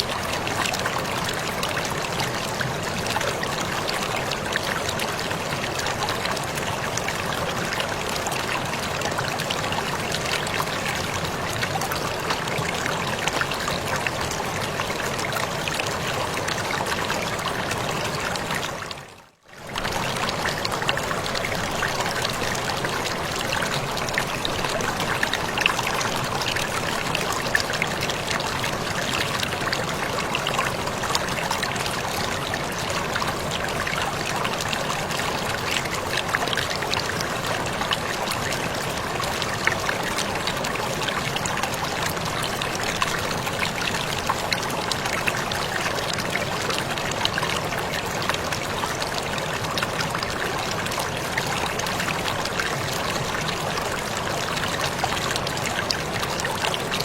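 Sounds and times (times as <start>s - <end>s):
waterfall pouring and splashing: 0.0s - 57.0s.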